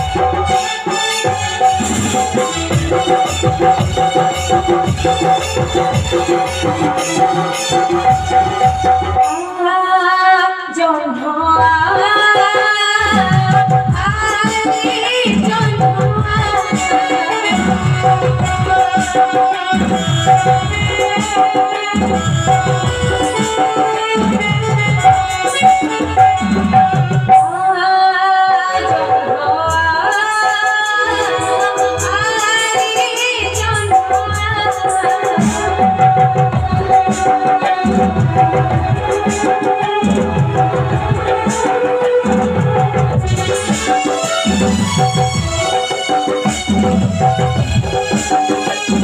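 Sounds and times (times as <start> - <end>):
hand drums: 0.0 - 9.6, 11.8 - 27.6, 28.8 - 49.0.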